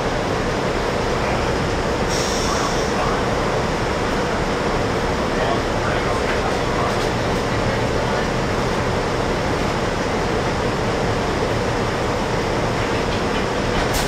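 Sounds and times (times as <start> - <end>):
bus idling drone: 0.0 - 14.0.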